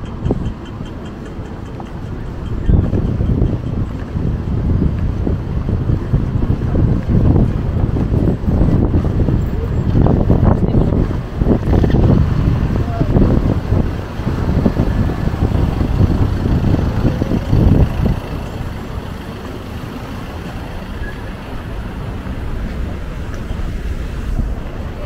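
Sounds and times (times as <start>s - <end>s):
cars passing on road: 0.0s - 25.0s.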